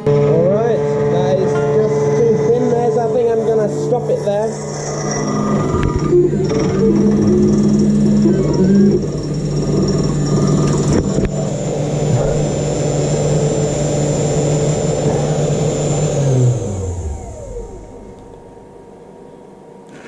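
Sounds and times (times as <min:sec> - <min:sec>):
spindle motor milling aluminium: 0:00.0 - 0:18.5
spindle winding down: 0:00.0 - 0:18.6.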